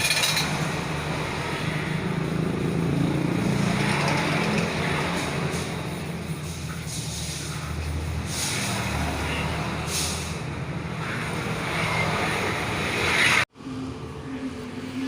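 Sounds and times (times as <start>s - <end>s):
low traffic hum: 0.0s - 15.0s.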